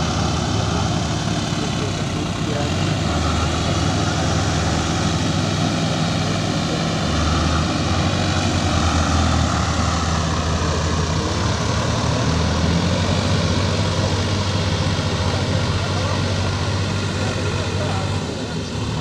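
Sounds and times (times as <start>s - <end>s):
tractor engines running hard: 0.0s - 19.0s.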